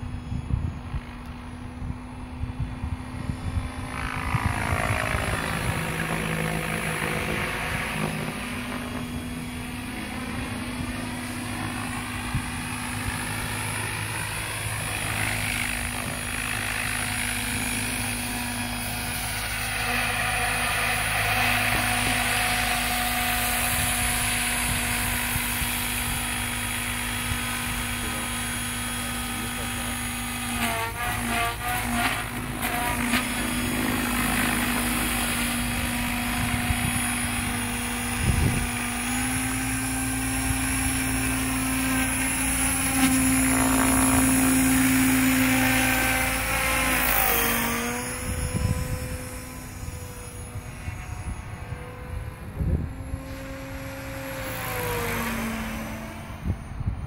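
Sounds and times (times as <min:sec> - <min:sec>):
rc helicopter rotor hum: 0:00.0 - 0:57.0.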